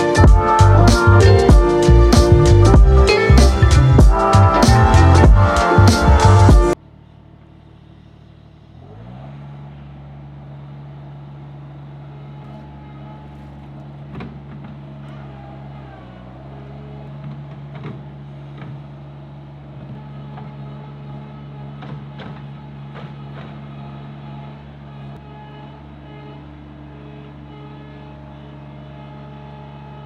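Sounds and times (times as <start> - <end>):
diesel engine revving up: 0.0 - 6.8, 7.9 - 30.0.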